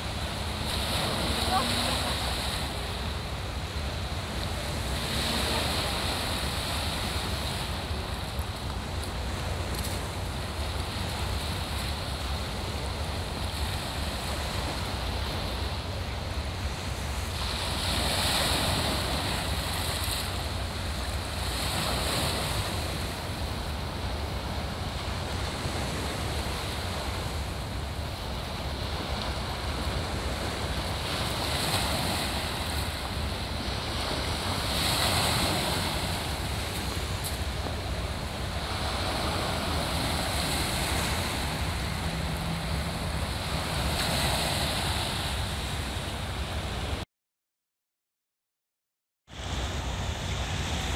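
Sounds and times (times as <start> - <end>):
sea waves breaking on rocks: 0.0 - 47.0.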